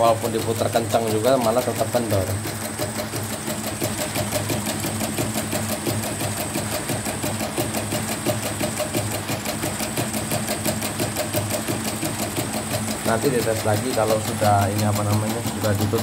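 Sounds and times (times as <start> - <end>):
embroidery machine clattering: 0.0 - 16.0.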